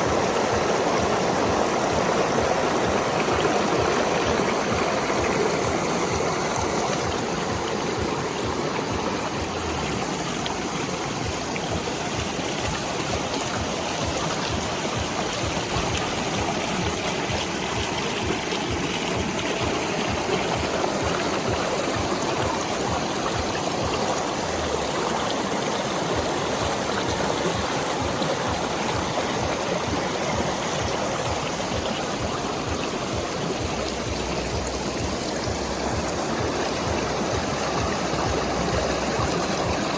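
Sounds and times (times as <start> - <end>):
small waterfall in a stream: 0.0 - 39.9.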